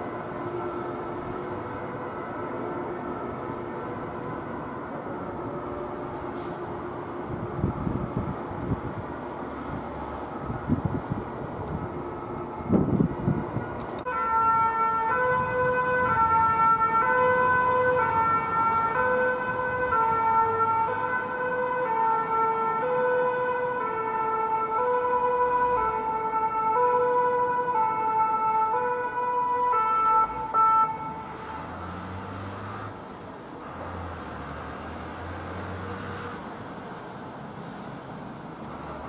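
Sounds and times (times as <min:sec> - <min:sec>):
two-tone fire engine siren: 0:00.0 - 0:09.0, 0:10.2 - 0:33.0.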